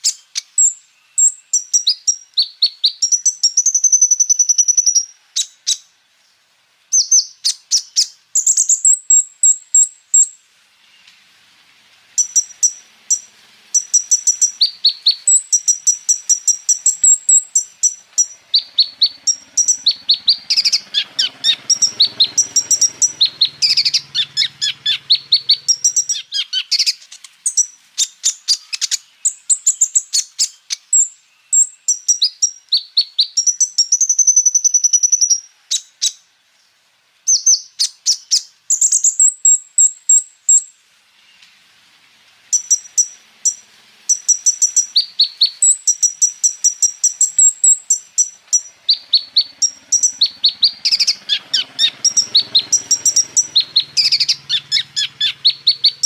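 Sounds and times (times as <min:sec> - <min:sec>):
sunbird chirping and trilling: 0:00.0 - 0:41.7, 0:42.4 - 0:56.0.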